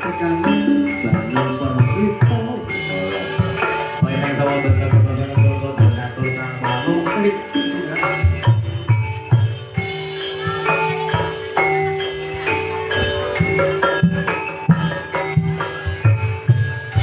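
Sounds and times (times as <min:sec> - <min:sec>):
metallophones ringing a melody: 0:00.0 - 0:17.0.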